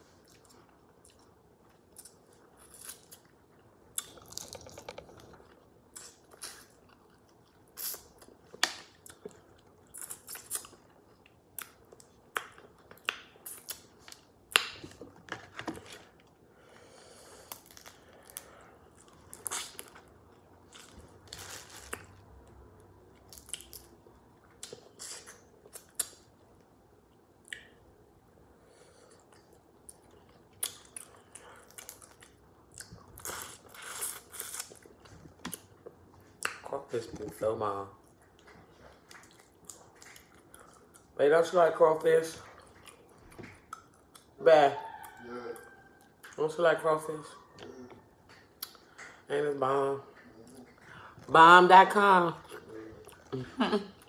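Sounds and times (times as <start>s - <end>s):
chewing and crunching: 0.0s - 16.4s, 17.3s - 26.5s, 29.1s - 51.3s.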